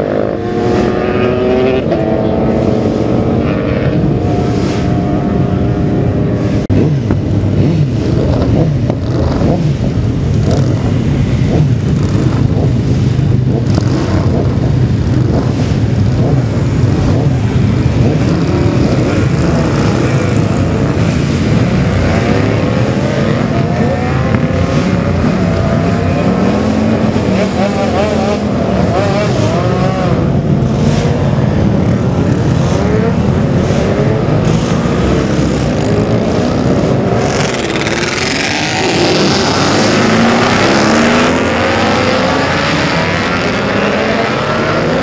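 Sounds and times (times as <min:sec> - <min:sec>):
motorcycle engines passing at speed: 0:00.0 - 0:45.0.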